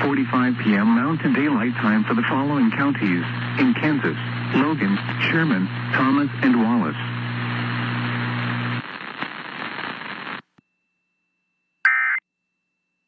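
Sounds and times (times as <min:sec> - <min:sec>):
radio hiss and crackle: 0:00.0 - 0:10.5.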